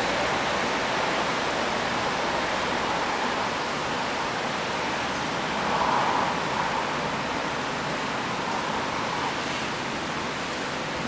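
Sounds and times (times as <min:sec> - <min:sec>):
rain on a wet street: 0:00.0 - 0:11.0.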